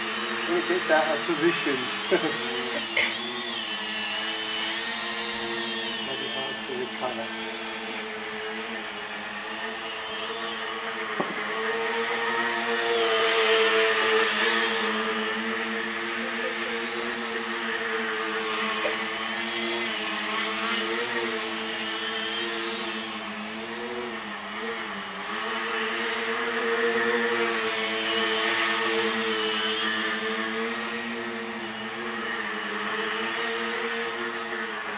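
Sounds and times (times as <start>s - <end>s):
drone motors and propellers buzzing: 0.0s - 34.9s.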